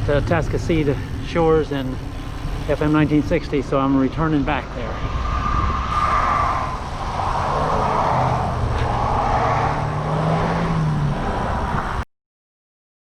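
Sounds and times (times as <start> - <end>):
tyre and road noise: 0.0 - 12.0
vehicle engine hum: 0.0 - 12.0.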